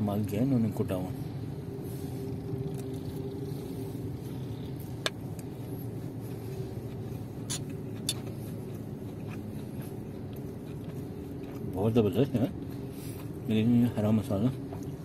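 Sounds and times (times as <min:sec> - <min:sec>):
low vehicle hum: 0:00.0 - 0:15.0.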